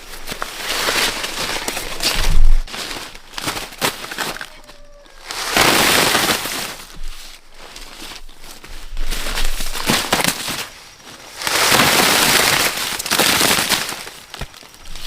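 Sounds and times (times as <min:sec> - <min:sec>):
dry corn plants crackling and rustling: 0:00.0 - 0:15.0.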